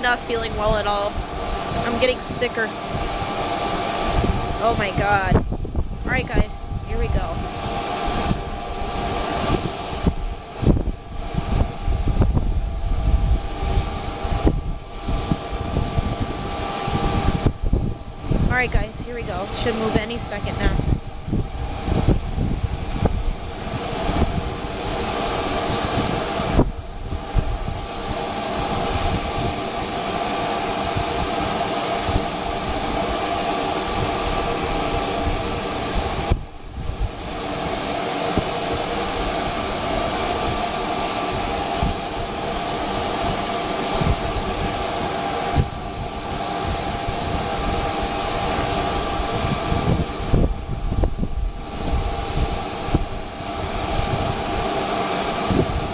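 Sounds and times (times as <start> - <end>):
jet engines whining: 0.0 - 55.9
wind rumbling on microphone: 0.0 - 55.9.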